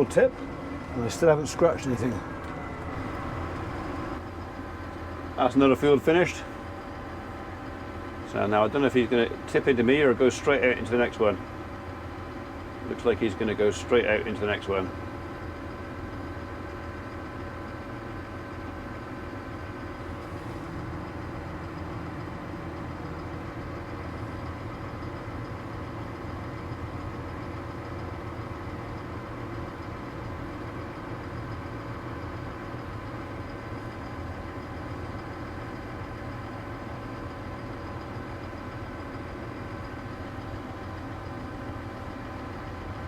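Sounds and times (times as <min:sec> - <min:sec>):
steady engine whines: 0:00.0 - 0:43.0
tractor diesel engine running: 0:00.0 - 0:43.0.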